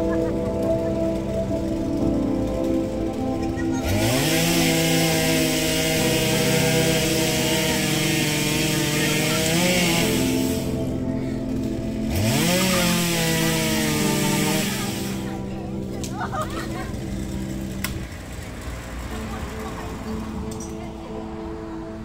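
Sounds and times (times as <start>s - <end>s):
chainsaw revving: 0.0s - 20.7s.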